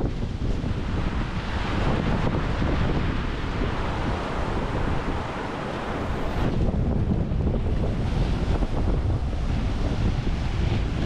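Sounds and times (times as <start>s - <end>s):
wind buffeting the microphone: 0.0s - 11.0s.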